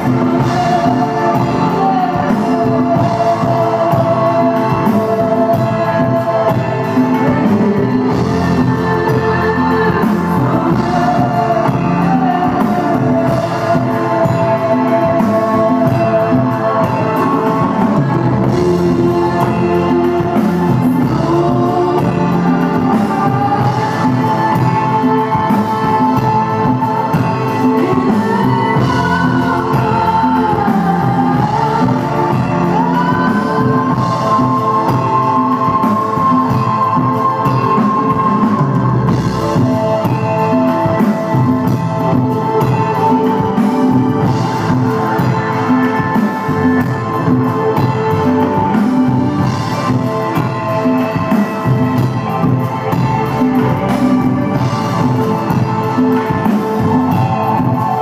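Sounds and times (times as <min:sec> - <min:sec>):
drums: 0:00.0 - 0:58.0
electronic keyboards: 0:00.0 - 0:58.0
woman singing: 0:00.0 - 0:58.0.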